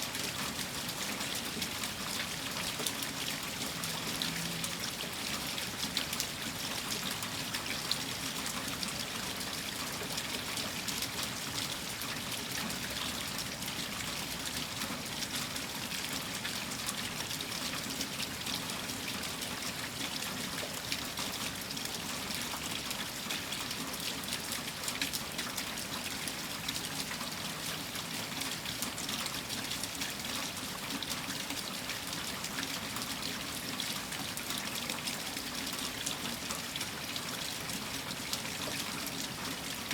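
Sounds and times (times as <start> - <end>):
steady rain: 0.0 - 39.9
water running and trickling: 0.1 - 39.9.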